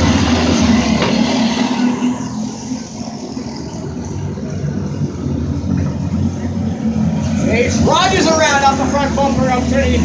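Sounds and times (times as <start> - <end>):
go-kart engines passing: 0.0 - 10.0.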